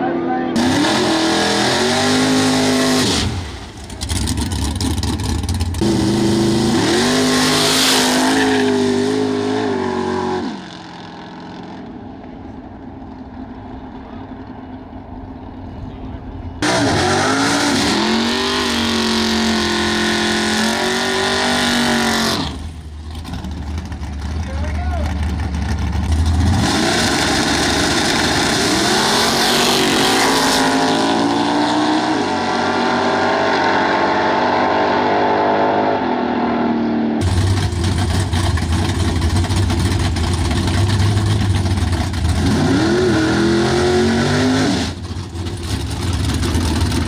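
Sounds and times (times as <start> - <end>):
drag car engines revving: 0.0 - 47.0.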